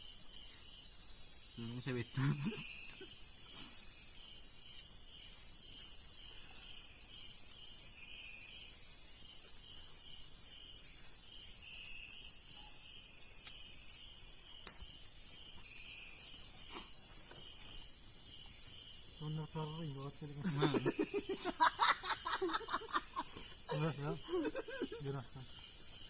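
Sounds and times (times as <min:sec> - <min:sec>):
crickets and insects shrilling: 0:00.0 - 0:26.0
pulsing insect call: 0:00.0 - 0:26.0.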